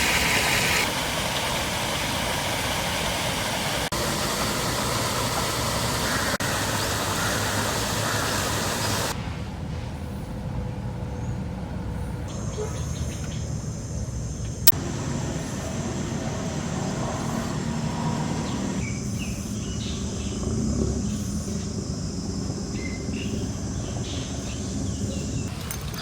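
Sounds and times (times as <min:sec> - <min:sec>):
high insect drone: 0:00.0 - 0:09.2, 0:12.0 - 0:25.5
road traffic rumble: 0:00.0 - 0:26.0.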